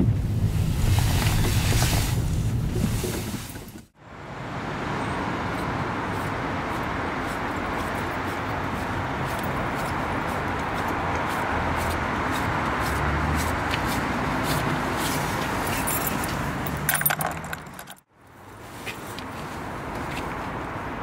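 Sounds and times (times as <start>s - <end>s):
car engine and road rumble: 0.0s - 21.0s
outdoor traffic hum: 0.0s - 21.0s.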